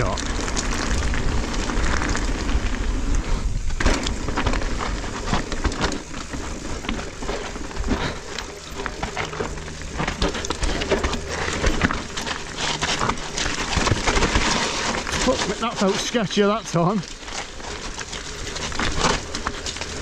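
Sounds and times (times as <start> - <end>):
tyres crunching over loose stone: 0.0 - 20.0
bike knocks and rattles: 3.6 - 20.0.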